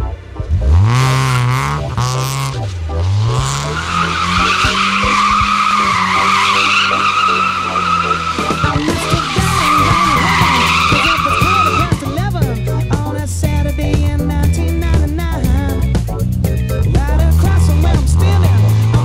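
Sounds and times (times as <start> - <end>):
car engine revving: 0.0 - 19.0
car tyres squealing: 0.1 - 13.4, 16.0 - 19.0.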